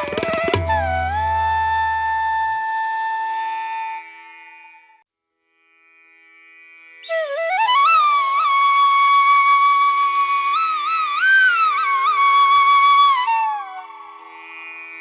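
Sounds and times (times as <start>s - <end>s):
flute-like melody: 0.0s - 4.7s, 7.1s - 14.4s.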